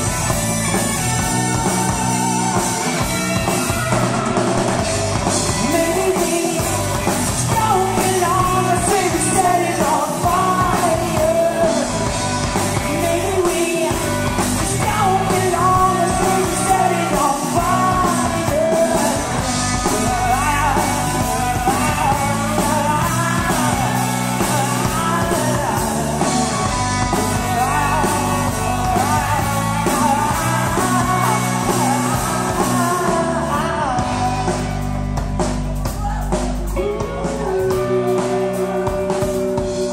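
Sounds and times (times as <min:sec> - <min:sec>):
drum kit: 0:00.0 - 0:39.9
electric guitars: 0:00.0 - 0:39.9
person singing lead vocal: 0:00.0 - 0:39.9.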